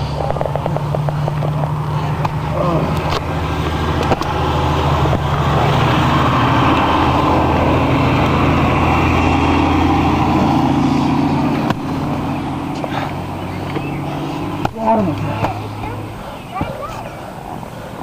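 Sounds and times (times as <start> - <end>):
rush of noise: 0.0 - 18.0
vehicle engine humming: 0.0 - 18.0.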